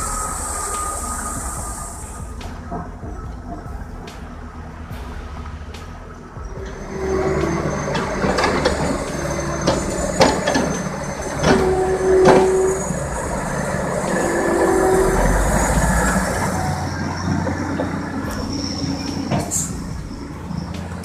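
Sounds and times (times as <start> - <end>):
short high squeals: 0.0 - 4.4, 6.5 - 21.0
steady machinery rumble: 0.0 - 21.0
heavy logs knocking and clattering: 2.3 - 21.0.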